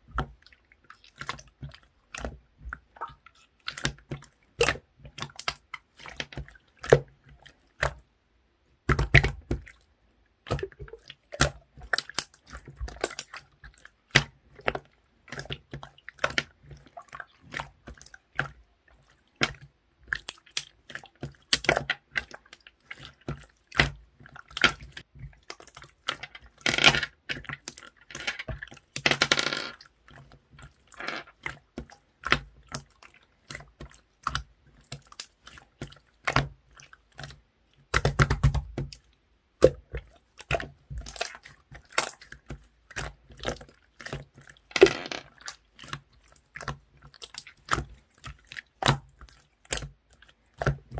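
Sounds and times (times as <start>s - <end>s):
slime squelching and popping: 0.0s - 8.1s, 8.8s - 50.9s.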